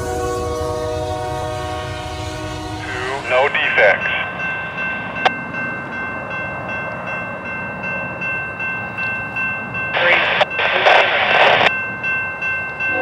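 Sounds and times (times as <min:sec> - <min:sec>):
crossing warning bell ringing: 0:00.0 - 0:13.0.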